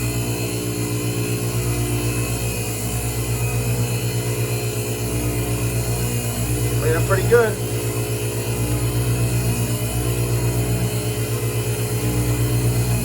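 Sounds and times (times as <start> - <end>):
grinder stone grinding flywheel: 0.0 - 13.0.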